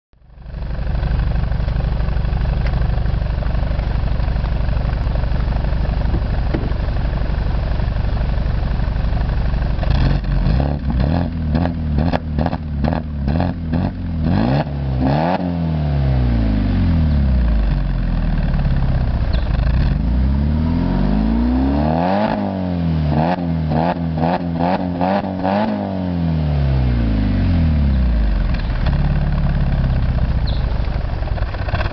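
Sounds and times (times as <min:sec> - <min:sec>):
car engine idling and revving: 0:00.2 - 0:31.9.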